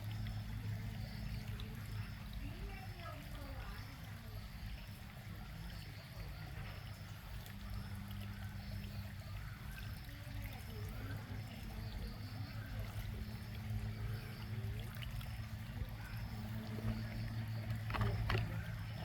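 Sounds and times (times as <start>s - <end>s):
low steady hum: 0.0s - 19.0s
small waterfall trickling: 0.0s - 19.0s.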